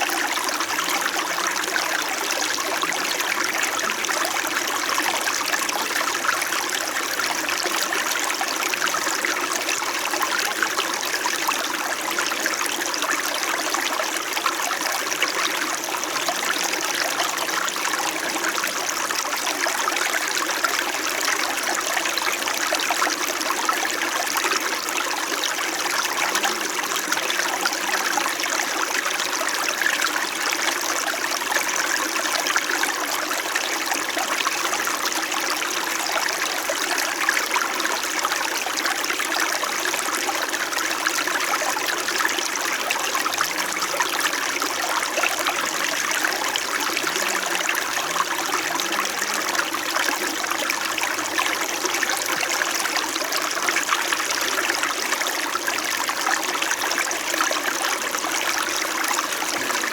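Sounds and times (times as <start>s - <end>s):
stream gurgling over stones: 0.0s - 59.9s.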